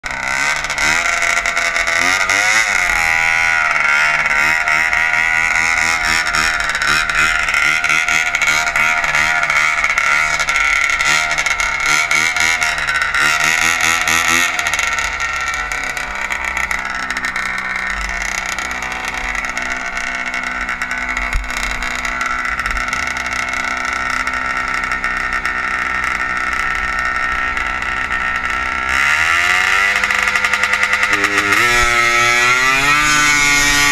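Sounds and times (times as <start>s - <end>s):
snowmobile engines revving: 0.0s - 33.9s.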